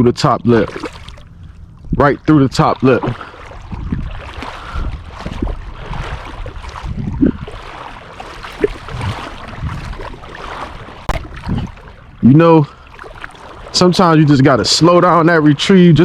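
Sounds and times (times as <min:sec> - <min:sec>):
wind rumble on microphone: 0:00.0 - 0:16.0
river water splashing: 0:00.4 - 0:16.0.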